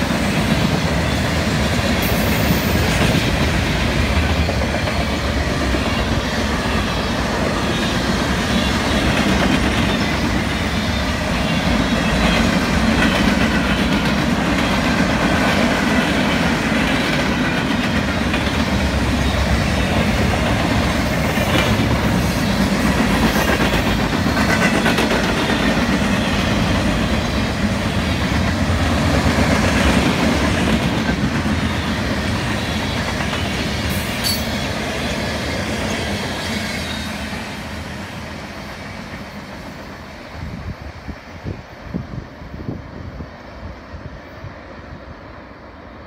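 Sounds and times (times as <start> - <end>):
freight train wheels clattering: 0.0 - 37.4.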